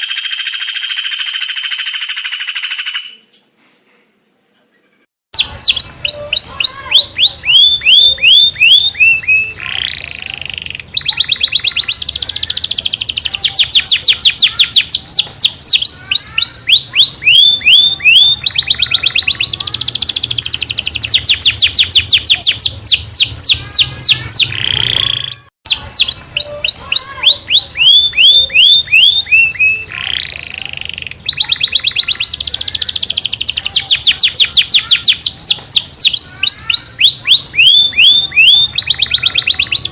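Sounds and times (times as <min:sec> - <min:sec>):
songbird chirps and trills: 0:00.0 - 0:03.6, 0:05.4 - 0:39.9.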